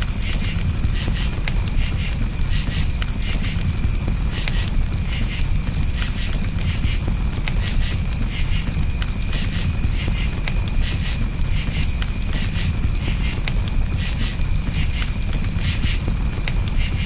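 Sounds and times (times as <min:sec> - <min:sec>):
campfire crackling: 0:00.0 - 0:17.0
crickets chirping: 0:00.0 - 0:17.0.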